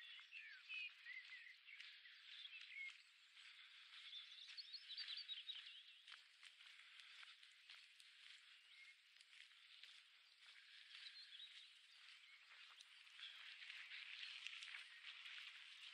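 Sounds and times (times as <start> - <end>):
birds chirping and warbling: 0.0 - 15.9.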